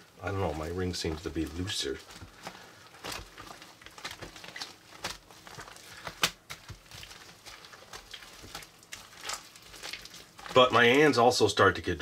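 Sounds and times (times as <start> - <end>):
slime squishing and crackling: 0.0 - 11.6.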